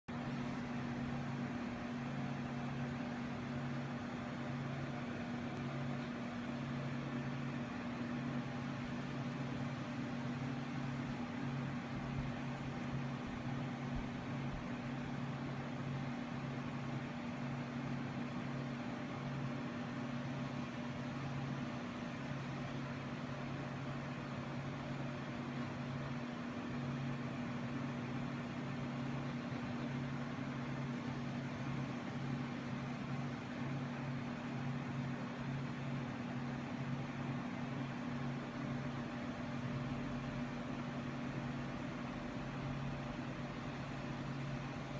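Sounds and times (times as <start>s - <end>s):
low mechanical hum: 0.1s - 44.9s.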